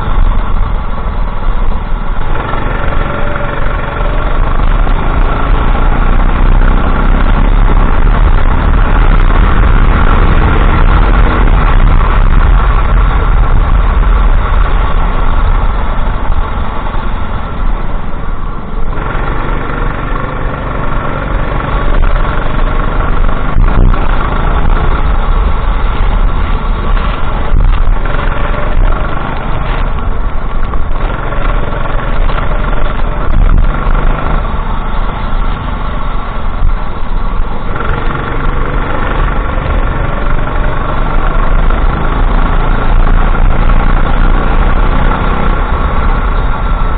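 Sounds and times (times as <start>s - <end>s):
go-kart engine revving: 0.0s - 46.9s.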